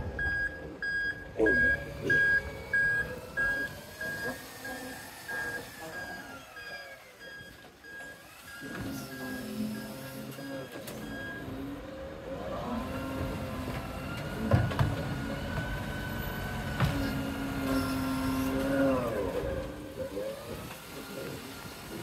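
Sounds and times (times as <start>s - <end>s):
garbage truck engine revving: 0.0s - 22.0s
hydraulic arm whine: 0.0s - 22.0s.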